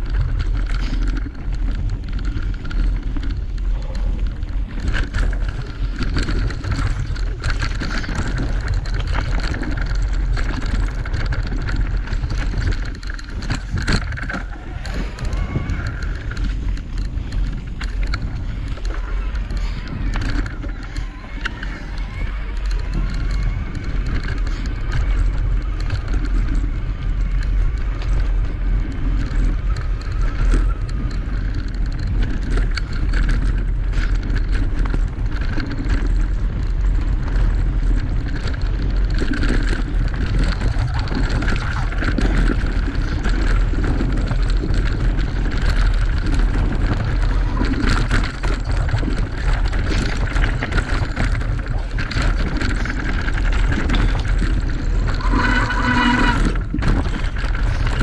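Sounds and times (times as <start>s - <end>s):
bike rattling over bumps: 0.0s - 58.0s
tyres crunching over dirt: 0.0s - 58.0s
wind buffeting microphone: 0.0s - 58.0s.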